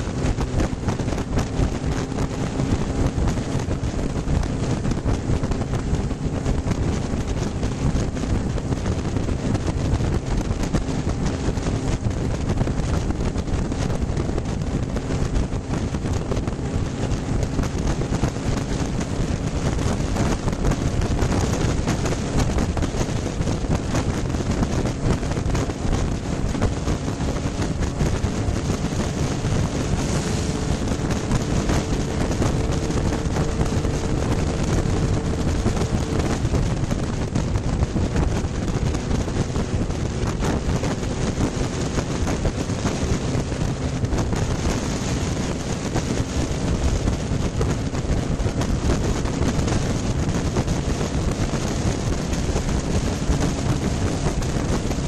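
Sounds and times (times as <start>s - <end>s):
motorcycle engine droning: 0.0s - 55.0s
wind rushing on microphone: 0.0s - 55.0s.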